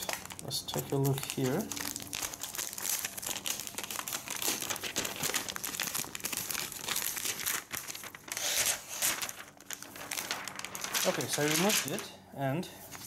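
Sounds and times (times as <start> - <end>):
plastic film crackling and rustling: 0.0 - 12.2.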